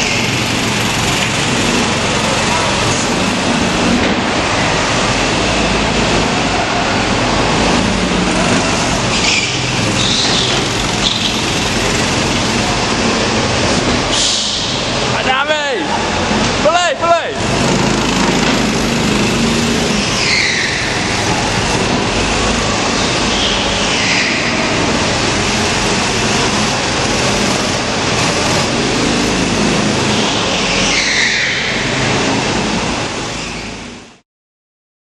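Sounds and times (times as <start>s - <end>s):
kart engines whining: 0.0s - 34.1s.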